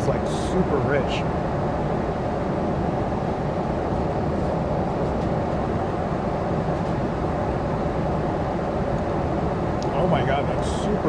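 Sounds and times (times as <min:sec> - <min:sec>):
jet engines droning: 0:00.0 - 0:11.0.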